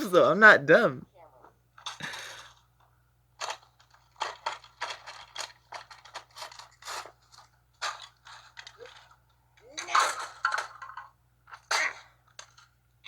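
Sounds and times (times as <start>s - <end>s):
plastic toy cracking and crunching: 1.8s - 12.8s.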